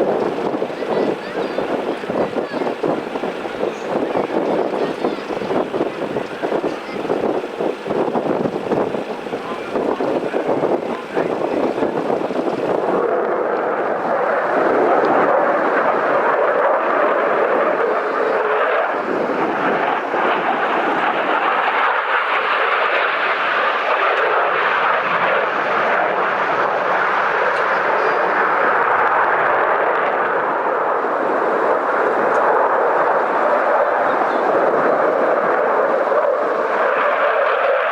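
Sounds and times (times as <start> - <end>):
aircraft engine rushing: 0.0 - 37.9.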